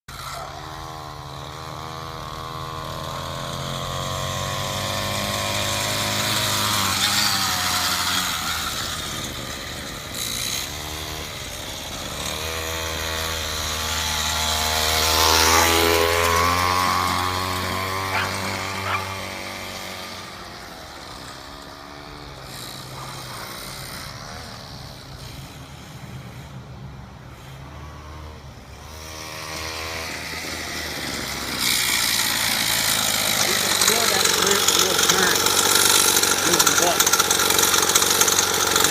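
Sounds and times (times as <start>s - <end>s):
minibike engine revving: 0.1s - 38.9s.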